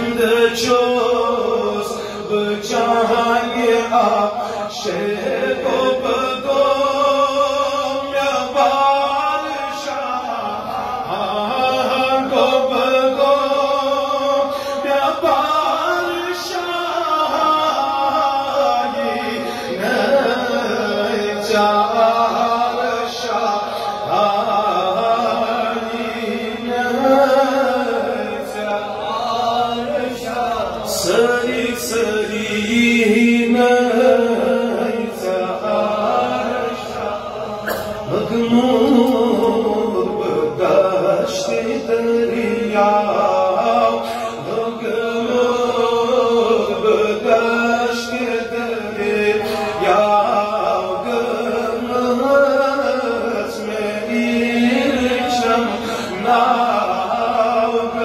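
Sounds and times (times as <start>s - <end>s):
man singing devotional chant: 0.0s - 58.0s.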